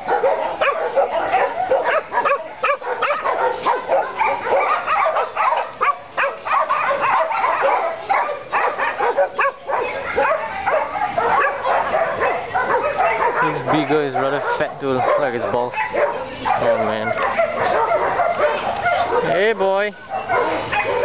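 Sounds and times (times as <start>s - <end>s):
many dogs barking: 0.0s - 21.0s.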